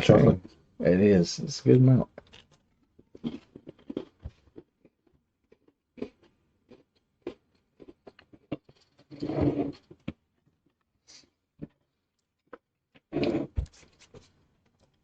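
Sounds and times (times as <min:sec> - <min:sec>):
cookies being bitten and chewed: 0:02.1 - 0:15.0.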